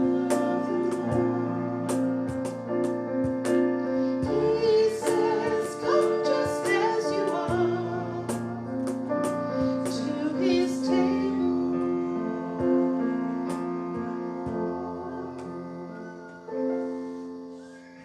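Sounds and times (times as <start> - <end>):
hymn singing: 0.0 - 18.0
piano accompaniment: 0.0 - 18.0.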